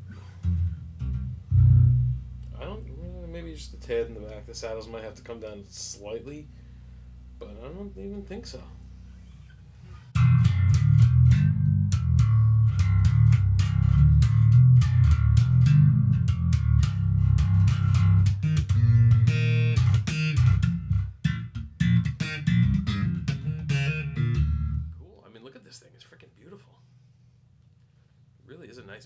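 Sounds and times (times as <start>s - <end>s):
electric bass plucked notes: 0.0s - 25.0s.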